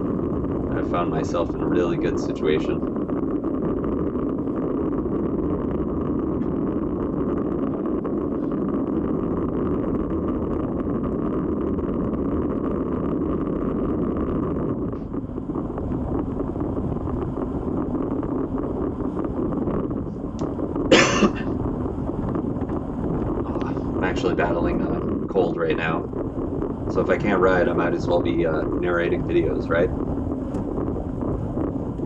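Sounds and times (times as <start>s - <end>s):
wind rush over microphone: 0.0s - 32.0s.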